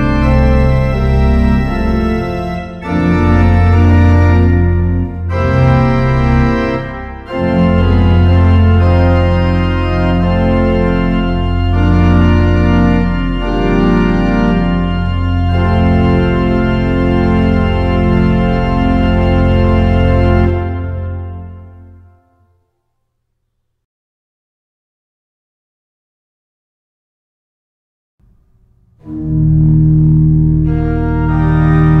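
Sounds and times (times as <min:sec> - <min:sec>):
pipe organ chords: 0:00.0 - 0:22.6, 0:28.2 - 0:32.0.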